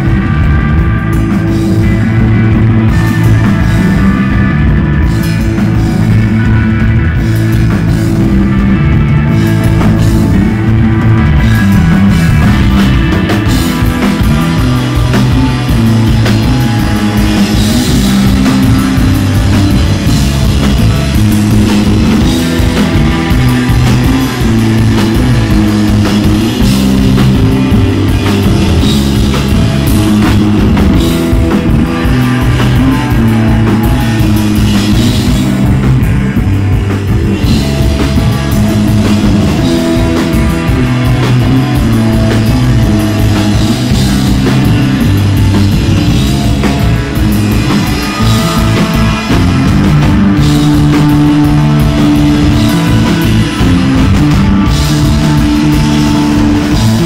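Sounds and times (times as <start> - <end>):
bass guitar: 0.0 - 57.0
drum kit with cymbals: 0.0 - 57.0
electric guitar: 0.0 - 57.0.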